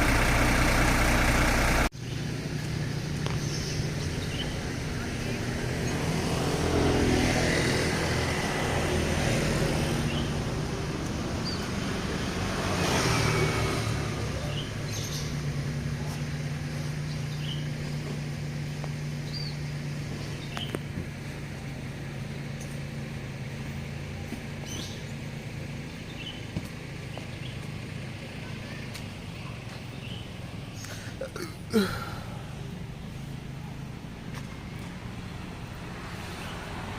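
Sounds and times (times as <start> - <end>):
bus engine running: 0.0 - 36.9
road traffic passing: 0.0 - 36.9.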